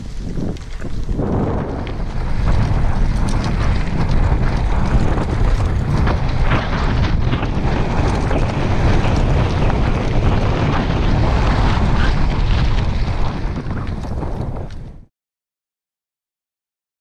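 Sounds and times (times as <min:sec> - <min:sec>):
tyres crunching on gravel: 0:00.0 - 0:14.9
bike rattling: 0:00.0 - 0:15.1
wind buffeting microphone: 0:00.0 - 0:15.1.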